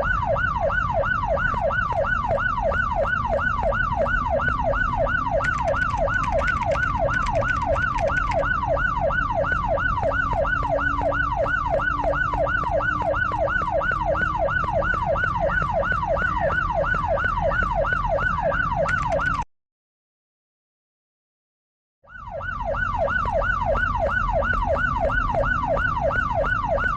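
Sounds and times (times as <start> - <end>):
siren with falling sweeps: 0.0 - 19.5, 22.1 - 26.9.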